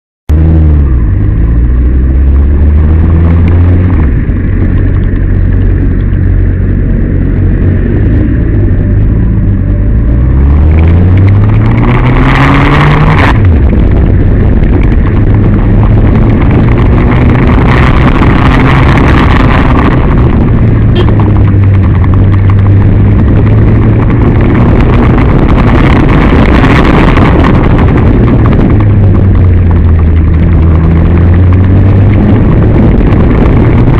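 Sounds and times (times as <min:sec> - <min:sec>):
road noise: 0:00.3 - 0:33.9
vehicle engine running: 0:00.3 - 0:33.9.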